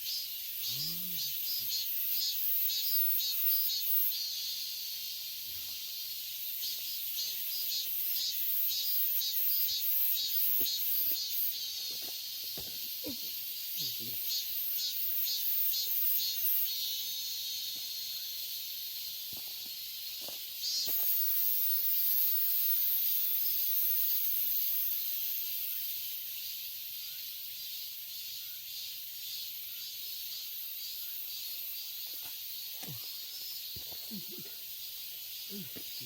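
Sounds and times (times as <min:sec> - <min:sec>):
cicadas singing: 0:00.0 - 0:36.0.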